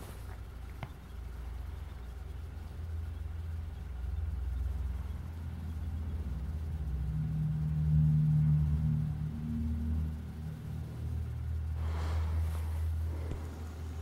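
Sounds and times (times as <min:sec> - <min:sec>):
steady low drone: 0:01.0 - 0:14.0.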